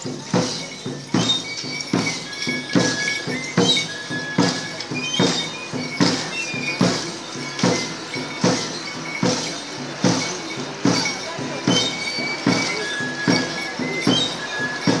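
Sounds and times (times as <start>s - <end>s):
drum beaten steadily: 0.0s - 15.0s.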